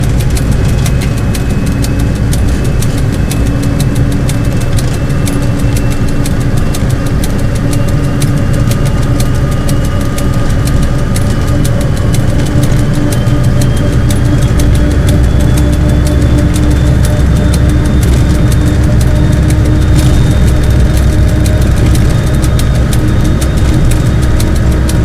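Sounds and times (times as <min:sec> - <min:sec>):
sharp ticks: 0:00.0 - 0:25.0
vehicle engine idling: 0:00.0 - 0:25.0.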